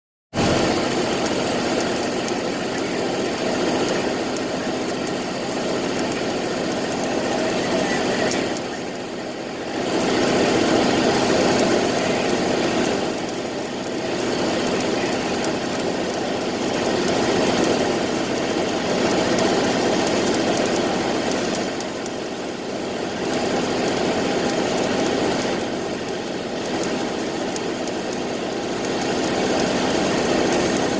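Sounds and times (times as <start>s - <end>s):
arc welding crackling hiss: 0.4s - 30.9s.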